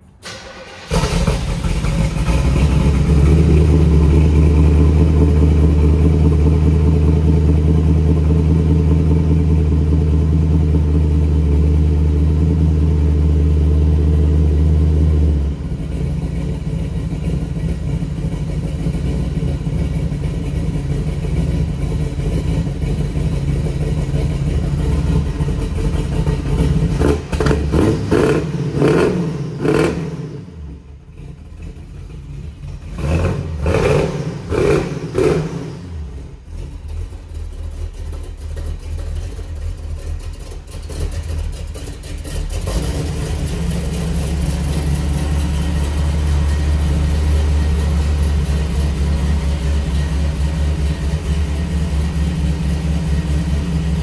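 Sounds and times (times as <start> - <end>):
sports car engine idling: 0.2 - 54.0.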